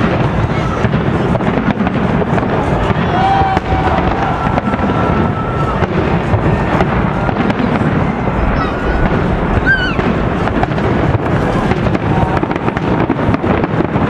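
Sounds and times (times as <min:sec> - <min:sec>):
continuous rumble: 0:00.0 - 0:14.0
firework bangs and crackles: 0:00.0 - 0:14.0.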